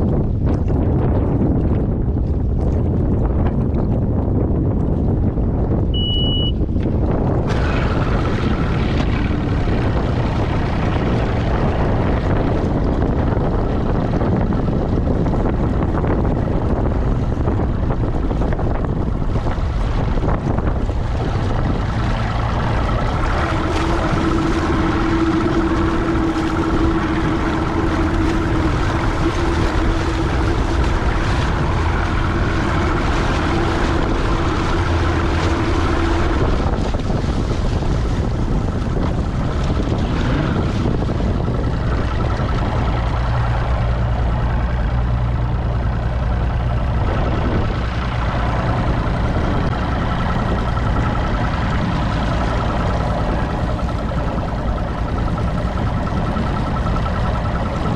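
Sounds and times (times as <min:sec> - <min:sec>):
outboard motor running: 0:00.0 - 0:57.9
steady engine hum: 0:00.0 - 0:57.9
wind buffeting microphone: 0:00.0 - 0:57.9.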